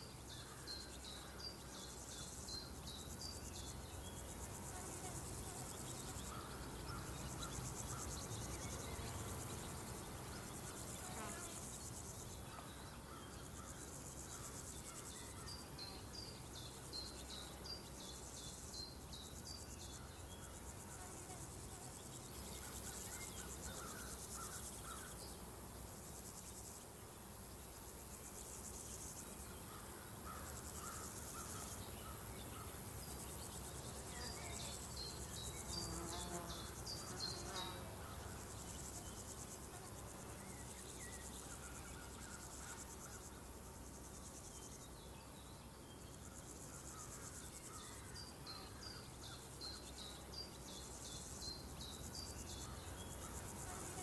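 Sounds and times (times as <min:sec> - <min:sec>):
crickets buzzing: 0:00.0 - 0:54.0.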